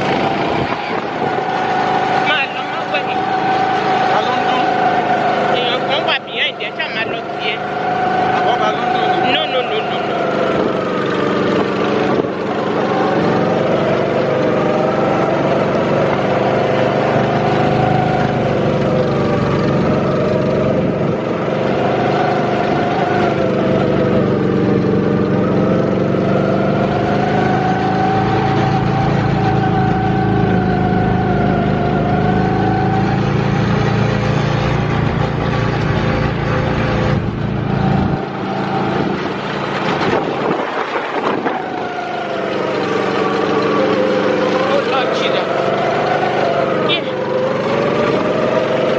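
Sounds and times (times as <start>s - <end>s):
go-kart engine running: 0.0s - 48.9s.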